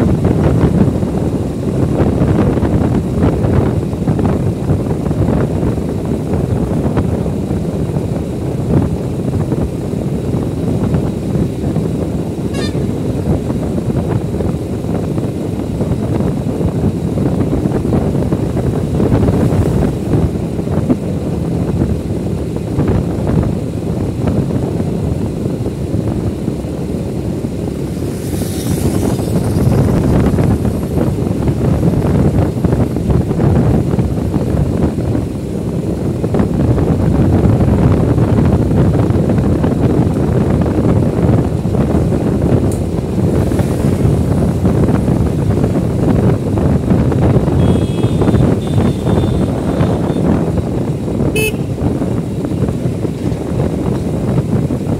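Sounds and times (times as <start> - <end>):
motorbike road rumble: 0.0 - 54.9
wind buffeting microphone: 0.0 - 54.9
wind rush while riding: 0.0 - 54.9.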